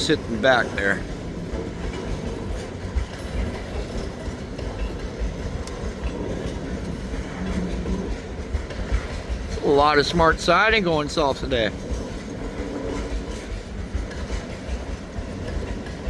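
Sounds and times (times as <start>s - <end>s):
freight train rumbling past: 0.0s - 16.0s
wheels clicking on rails: 0.0s - 16.0s.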